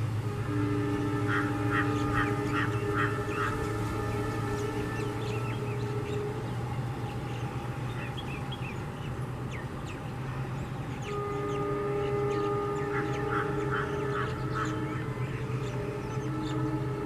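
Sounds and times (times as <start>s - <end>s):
locomotive horn: 0.0s - 17.0s
locomotive rumble: 0.0s - 17.0s.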